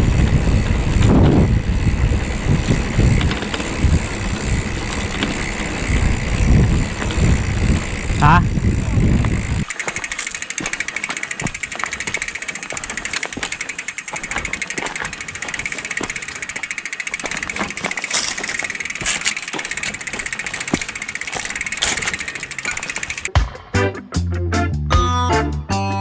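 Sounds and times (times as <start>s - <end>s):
bike hub freewheel clicking: 0.0s - 23.4s.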